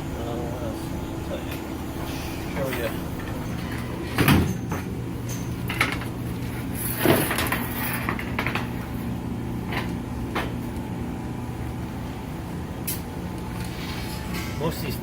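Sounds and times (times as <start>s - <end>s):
furnace machine hum: 0.0s - 15.0s.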